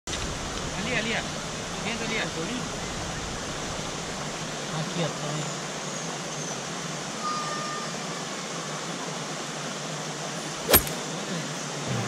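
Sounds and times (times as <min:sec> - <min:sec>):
stream running over stones: 0:00.1 - 0:07.2, 0:07.9 - 0:12.0.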